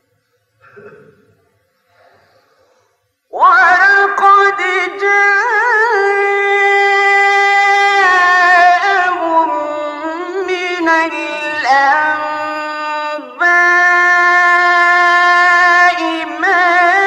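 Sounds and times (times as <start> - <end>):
man reciting melodically: 3.3 - 17.0.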